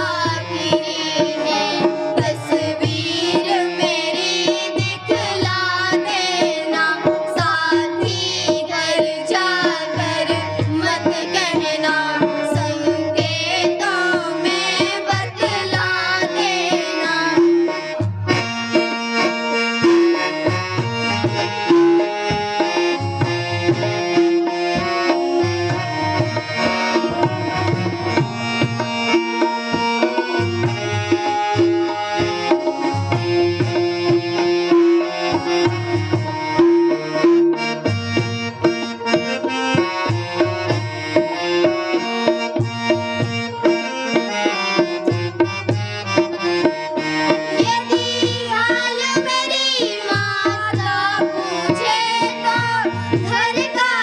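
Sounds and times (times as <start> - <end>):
harmonium melody: 0.0 - 54.0.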